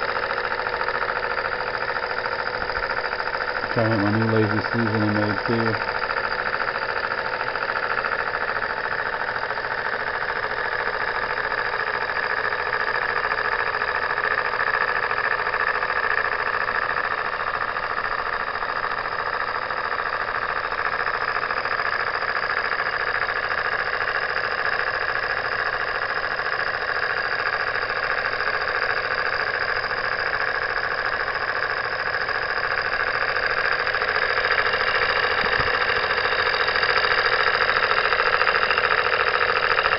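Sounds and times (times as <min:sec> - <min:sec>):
steam engine running: 0:00.0 - 0:39.9.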